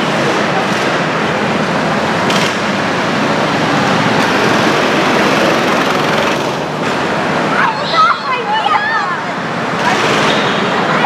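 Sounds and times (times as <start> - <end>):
go-kart engines running: 0.0 - 11.0.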